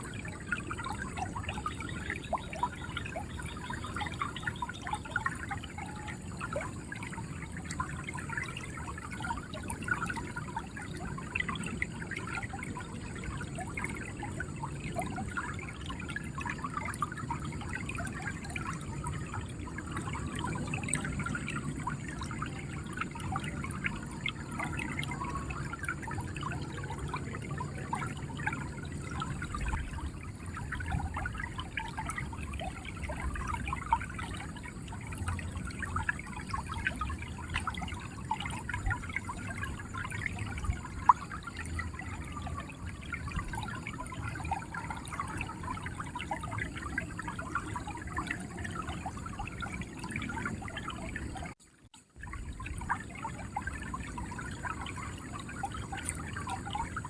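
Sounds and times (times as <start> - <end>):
river water gurgling: 0.0 - 57.0.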